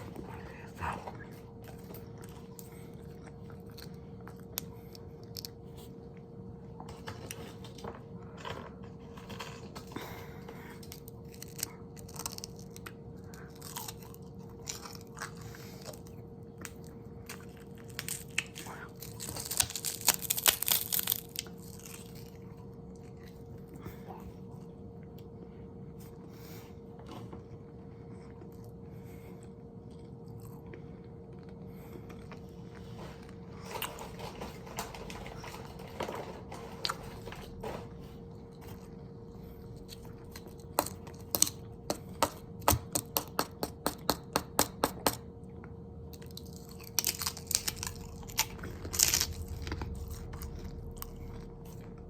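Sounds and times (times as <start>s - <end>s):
chewing and crunching: 0.0s - 52.0s.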